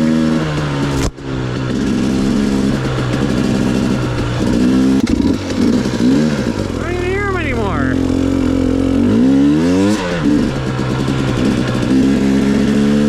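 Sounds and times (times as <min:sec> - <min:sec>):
off-road vehicle engine revving: 0:00.0 - 0:07.4, 0:08.0 - 0:13.0.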